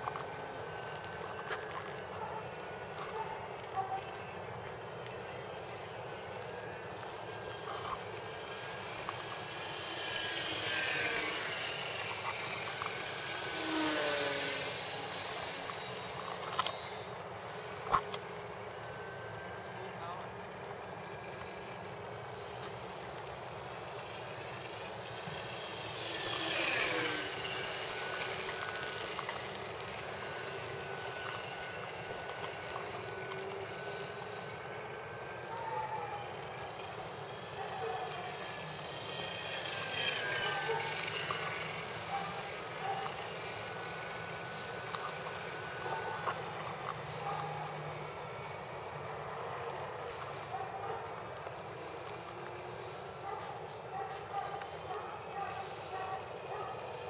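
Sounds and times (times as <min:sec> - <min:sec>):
model plane propeller whine: 0:00.0 - 0:57.0.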